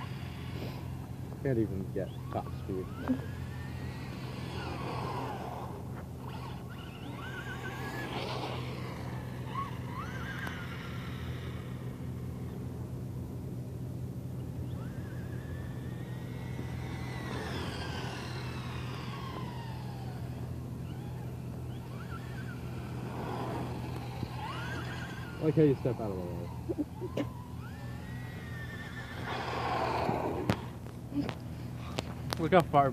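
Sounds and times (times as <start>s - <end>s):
electric motor whining: 0.0s - 32.9s.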